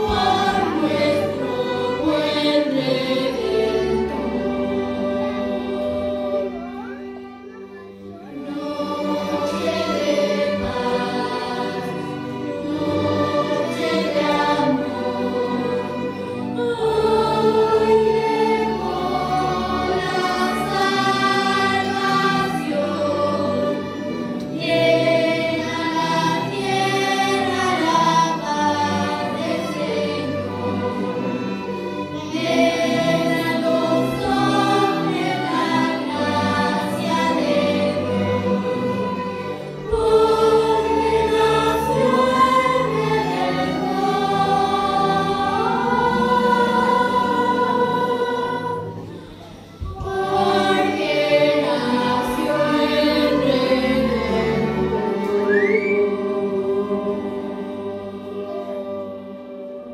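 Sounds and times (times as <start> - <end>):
children's string orchestra: 0.0 - 59.9
voices singing along: 8.3 - 59.9.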